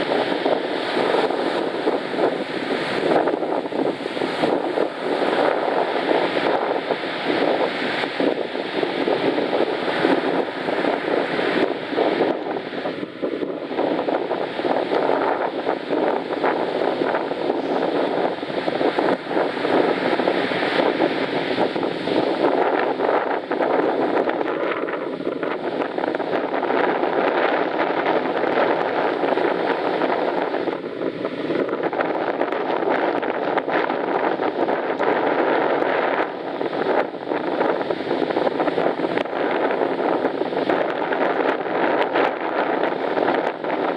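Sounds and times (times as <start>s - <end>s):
surf rushing on shore: 0.0s - 43.9s
wind buffeting microphone: 0.0s - 43.9s.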